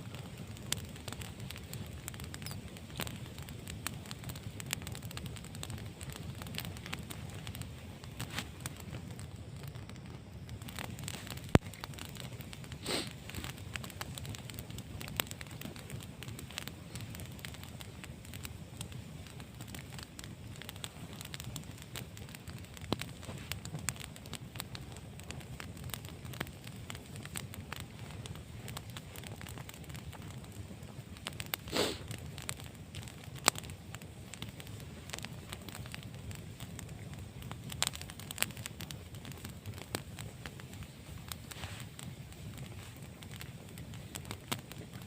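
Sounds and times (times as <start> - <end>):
fire pops and snaps: 0.0 - 45.0
wood fire crackling: 0.0 - 45.0.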